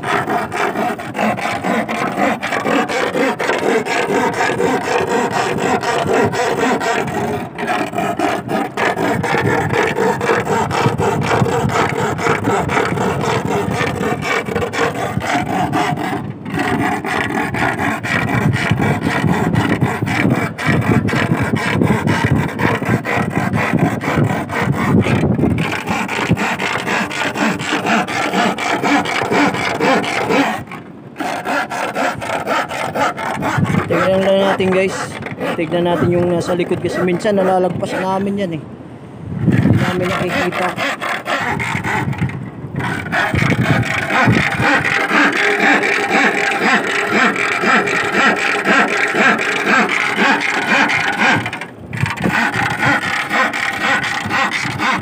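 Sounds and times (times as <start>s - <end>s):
iron bar scraping: 0.0s - 38.6s, 39.4s - 55.0s.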